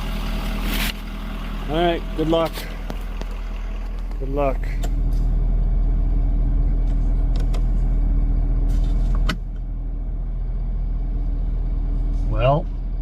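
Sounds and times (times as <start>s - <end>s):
pickup truck engine running: 0.0s - 13.0s.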